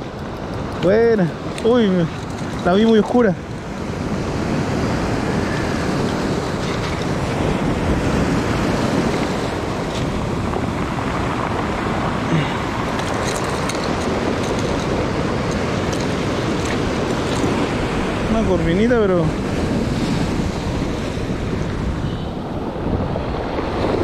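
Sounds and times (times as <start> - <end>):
wind buffeting microphone: 0.0 - 24.0
surf washing over pebbles: 0.4 - 22.0.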